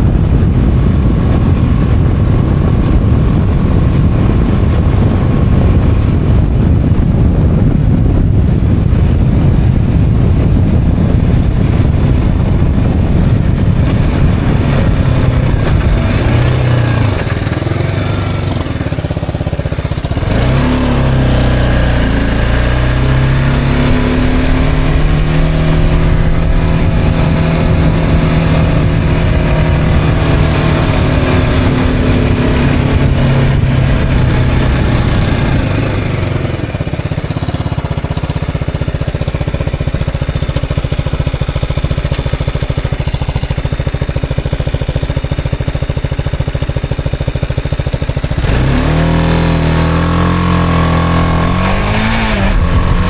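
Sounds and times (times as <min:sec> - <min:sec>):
motorcycle engine: 0:00.0 - 0:53.0
wind noise over microphone: 0:00.0 - 0:53.0.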